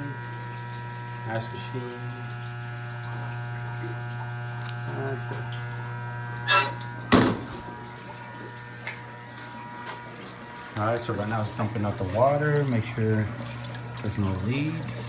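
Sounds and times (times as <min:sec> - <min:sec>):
electrical hum: 0:00.0 - 0:15.0
water running: 0:00.0 - 0:15.0.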